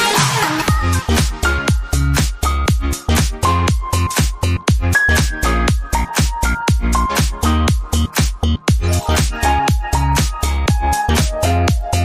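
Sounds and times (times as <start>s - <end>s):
electronic dance music: 0.0s - 12.0s
kick drum beat: 0.6s - 12.0s.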